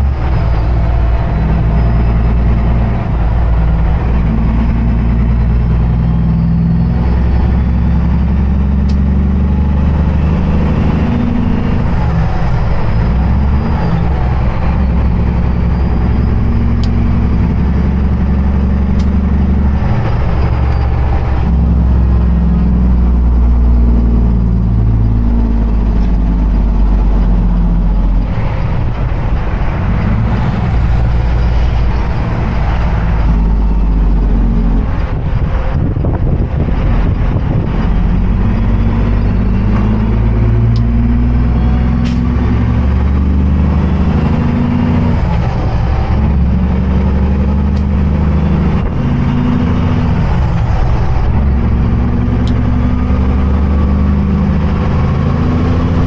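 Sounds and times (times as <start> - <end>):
truck diesel engine under load: 0.0 - 56.0.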